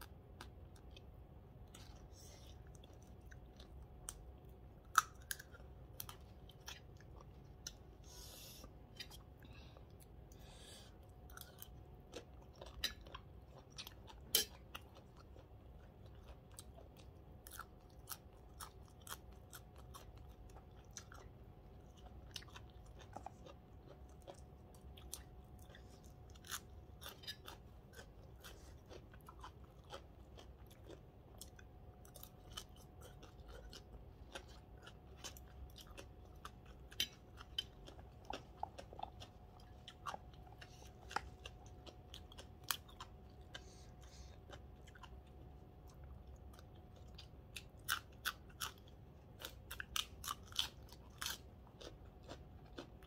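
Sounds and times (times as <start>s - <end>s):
person chewing with crisp crunches: 0.0s - 53.0s.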